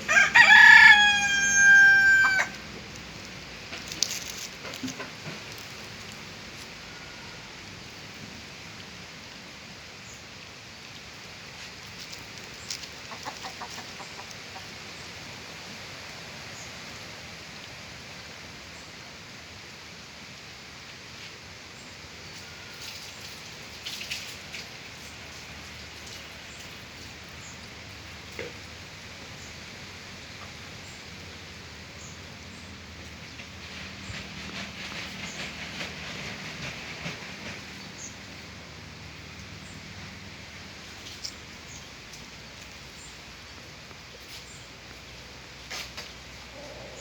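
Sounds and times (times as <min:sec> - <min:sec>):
steady hiss like rain: 0:00.0 - 0:47.0.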